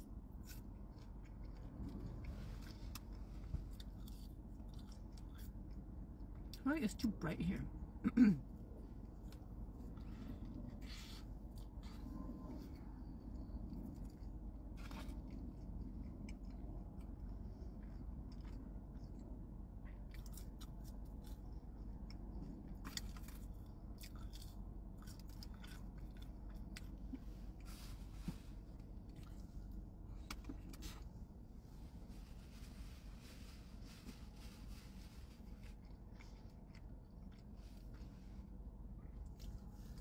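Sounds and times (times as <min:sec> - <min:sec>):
chewing with wet clicks: 0:00.0 - 0:06.6, 0:08.8 - 0:27.7, 0:28.7 - 0:31.1, 0:35.5 - 0:40.0
low background hum: 0:00.0 - 0:40.0.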